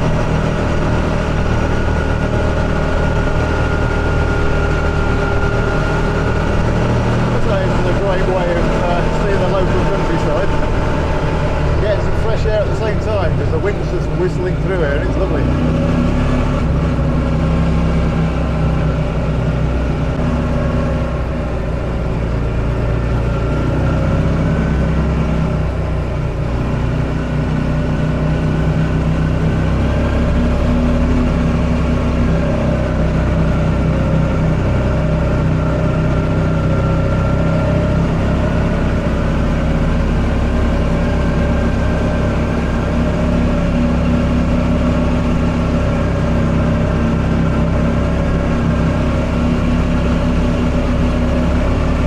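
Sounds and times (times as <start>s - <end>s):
buggy engine running: 0.0s - 52.0s.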